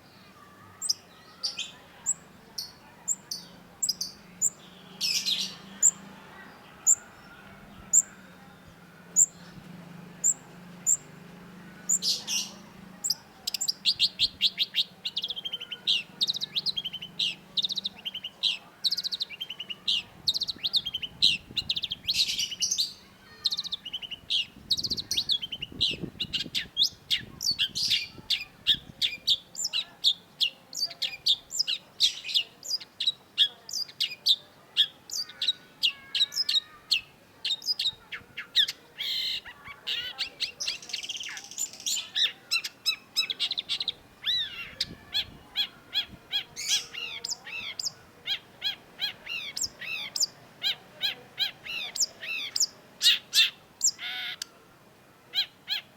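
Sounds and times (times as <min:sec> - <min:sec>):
bird chattering song: 0:00.0 - 0:08.3, 0:09.1 - 0:09.6, 0:10.2 - 0:54.6, 0:55.3 - 0:55.9.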